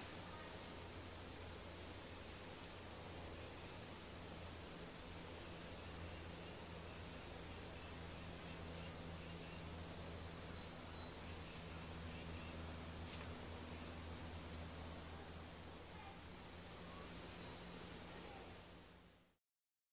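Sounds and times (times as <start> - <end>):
high-pitched insect trill: 0.0 - 19.0.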